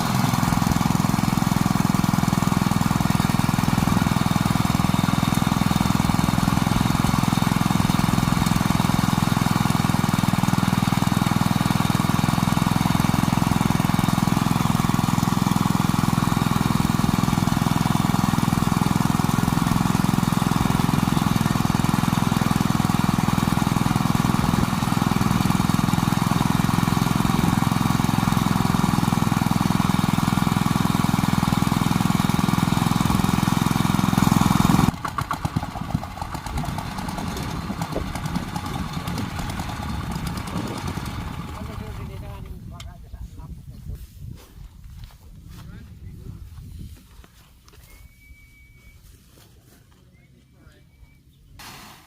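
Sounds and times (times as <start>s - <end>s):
small engine running steadily: 0.0s - 43.5s.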